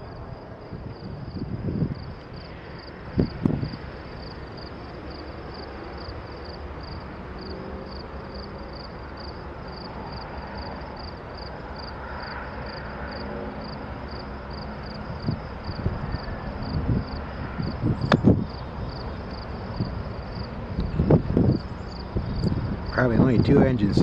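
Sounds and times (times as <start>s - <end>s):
distant locomotive drone: 0.0s - 24.0s
insects chirping: 0.0s - 24.0s.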